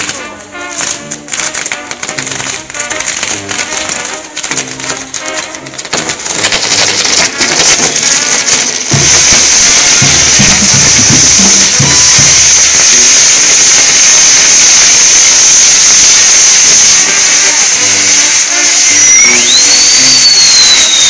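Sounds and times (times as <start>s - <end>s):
music playing: 0.0s - 19.6s
fireworks crackling: 0.0s - 21.0s
fireworks hissing: 0.0s - 21.0s.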